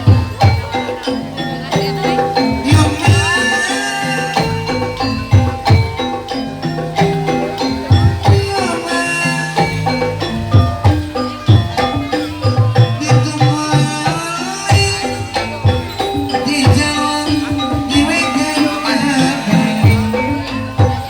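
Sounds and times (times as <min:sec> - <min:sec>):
hand drum beating: 0:00.0 - 0:21.0
metallophone notes ringing: 0:00.0 - 0:21.0
wavering melody line: 0:00.0 - 0:21.0.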